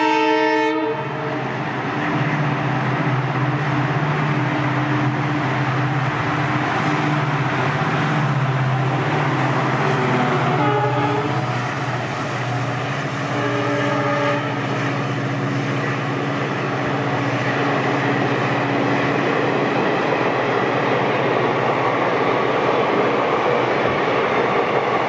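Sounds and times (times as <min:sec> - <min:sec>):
diesel locomotive engine drone: 0:00.0 - 0:25.0
train coaches rumbling on track: 0:00.0 - 0:25.0.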